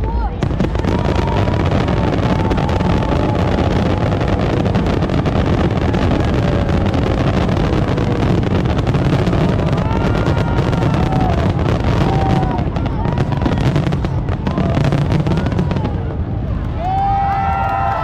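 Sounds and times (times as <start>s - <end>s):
fireworks crackling: 0.0s - 17.0s
low rumble of fireworks: 0.0s - 18.0s.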